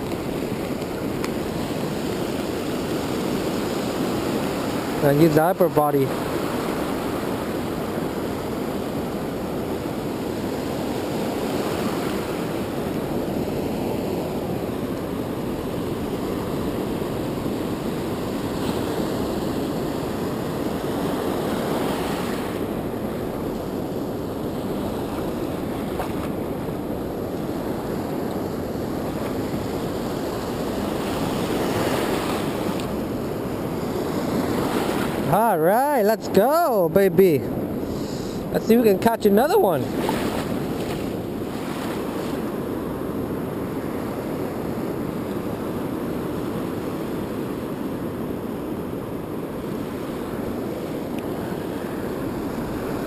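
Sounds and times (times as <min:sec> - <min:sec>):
ocean surf breaking: 0:00.0 - 0:53.0.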